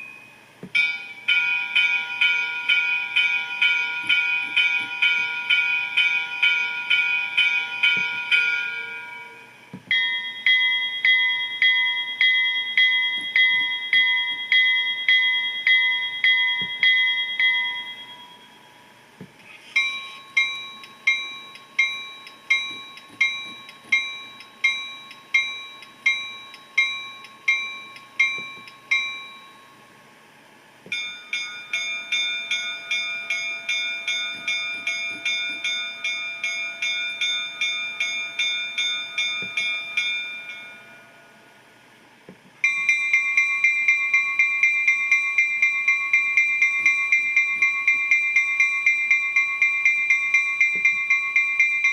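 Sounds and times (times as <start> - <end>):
locomotive bell ringing: 0.0 - 19.0, 19.7 - 29.9, 30.9 - 41.8, 42.6 - 51.9.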